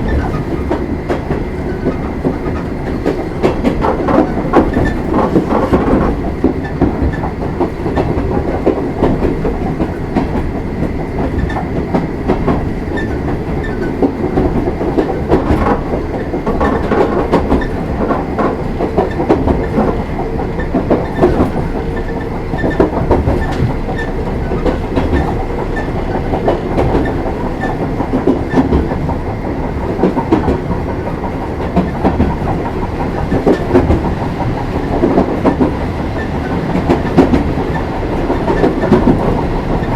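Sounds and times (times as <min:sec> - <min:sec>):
train rumble inside carriage: 0:00.0 - 0:39.9
wheels clacking over rail joints: 0:00.0 - 0:39.9.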